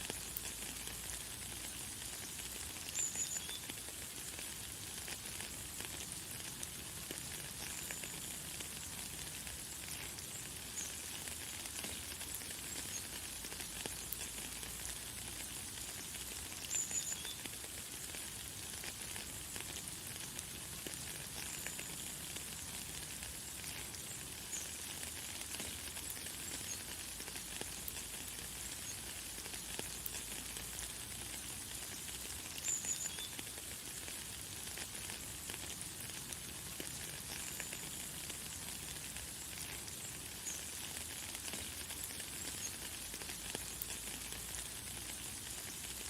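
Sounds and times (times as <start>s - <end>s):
light rain falling: 0.0s - 46.0s.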